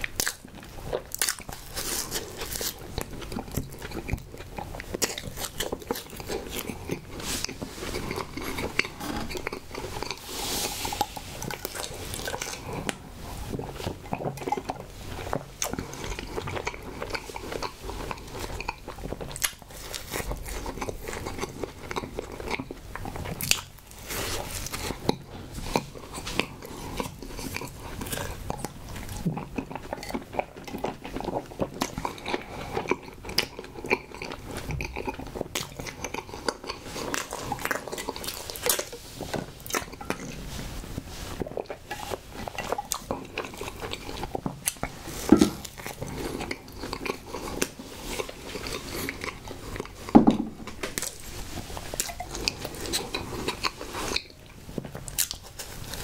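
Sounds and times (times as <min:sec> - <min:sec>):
close-miked chewing: 0:00.0 - 0:56.0.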